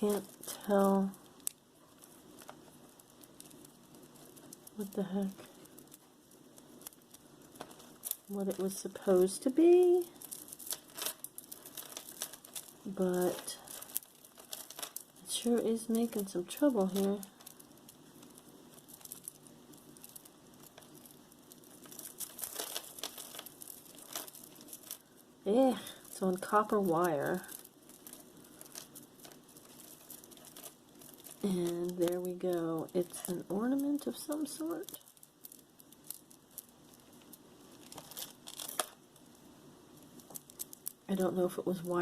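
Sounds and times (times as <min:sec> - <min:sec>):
wire and jewelry crinkling: 0:00.0 - 0:42.0.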